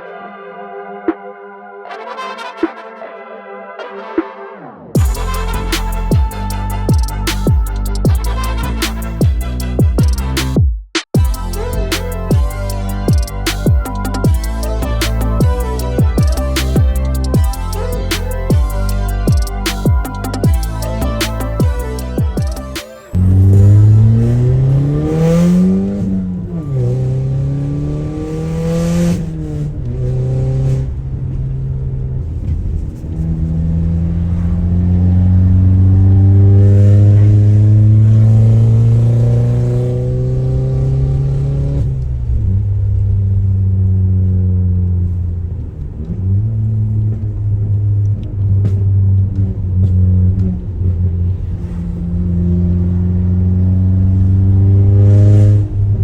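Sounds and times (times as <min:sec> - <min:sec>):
car exhaust accelerating: 0:05.0 - 0:10.4, 0:11.2 - 0:56.0.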